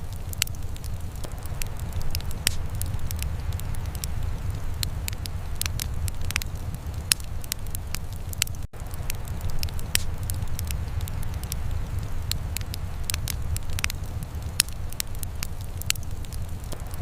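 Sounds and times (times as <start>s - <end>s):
fire low rumble: 0.0s - 17.0s
wood fire crackling and popping: 0.0s - 17.0s.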